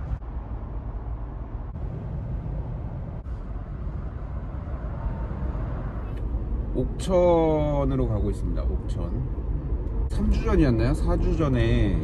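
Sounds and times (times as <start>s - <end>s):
engine rumble: 0.0s - 12.0s
tyre road noise: 0.0s - 12.0s.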